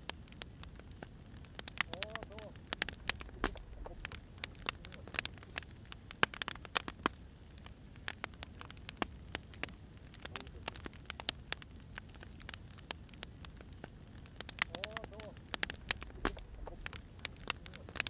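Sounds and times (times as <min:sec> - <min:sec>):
firewood popping and snapping: 0:00.0 - 0:18.0
low fire rumble: 0:00.0 - 0:18.0.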